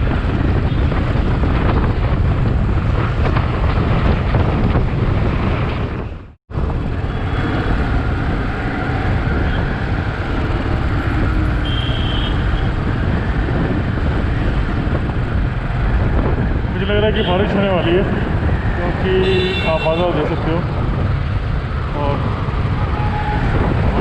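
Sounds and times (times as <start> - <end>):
road noise: 0.0 - 24.0
wind rushing over microphone: 0.0 - 24.0.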